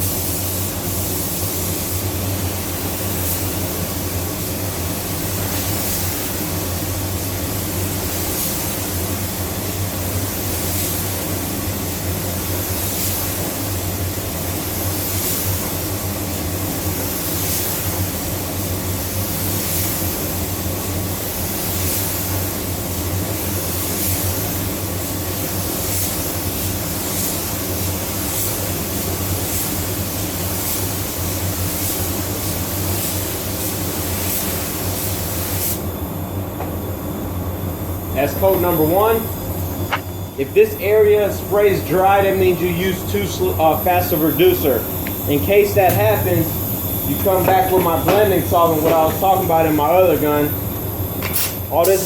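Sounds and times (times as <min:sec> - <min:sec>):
paint spray gun hissing: 0:00.0 - 0:35.8, 0:40.8 - 0:52.0
steady low hum: 0:00.0 - 0:52.0.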